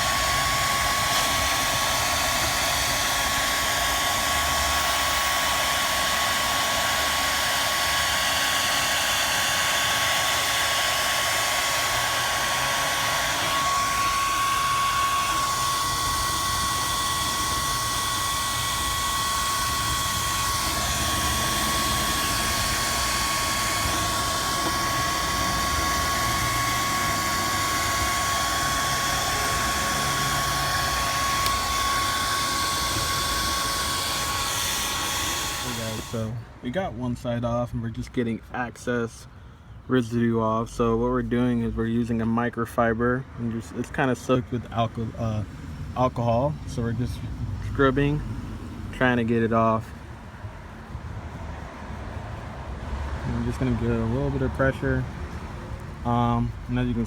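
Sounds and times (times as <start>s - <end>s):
heat gun blowing with whine: 0.0s - 37.3s, 46.0s - 57.0s.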